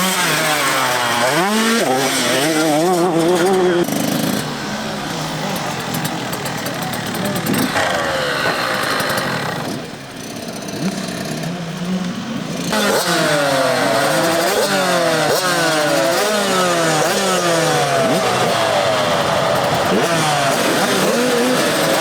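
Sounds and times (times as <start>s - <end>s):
motocross bikes revving: 0.0s - 22.0s.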